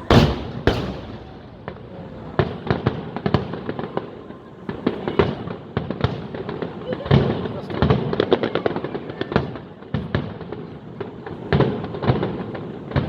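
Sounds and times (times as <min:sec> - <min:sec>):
firework booms: 0:00.0 - 0:13.0
firework cracks and pops: 0:00.0 - 0:13.0.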